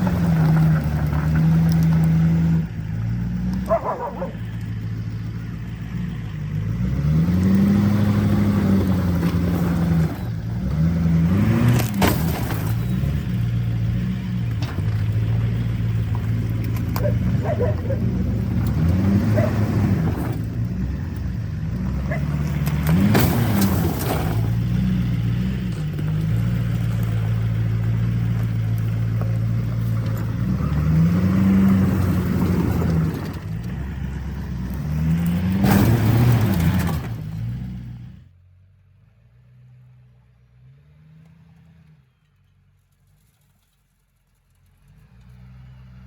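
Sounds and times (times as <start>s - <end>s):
vehicle engine revving: 0.0s - 38.3s.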